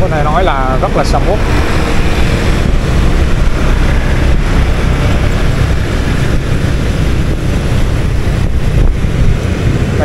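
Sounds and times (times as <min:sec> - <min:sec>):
motorbike engine rumble: 0:00.0 - 0:10.0
surrounding motorbikes: 0:00.0 - 0:10.0
wind buffeting microphone: 0:00.0 - 0:10.0.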